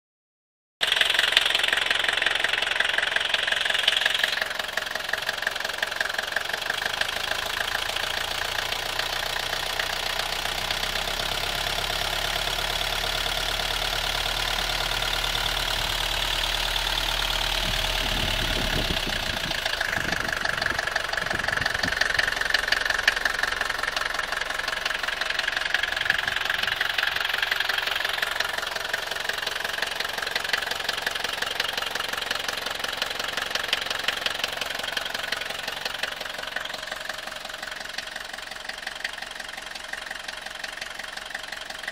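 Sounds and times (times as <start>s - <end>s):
diesel engine clattering: 0.8s - 41.9s.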